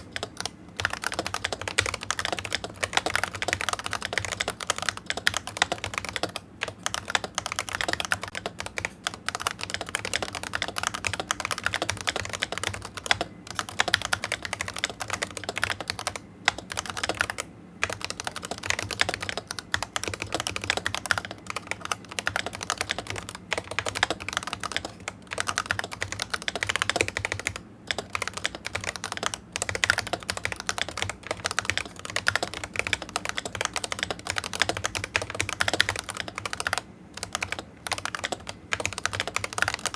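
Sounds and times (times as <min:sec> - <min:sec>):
keyboard typing clacks: 0:00.0 - 0:39.9.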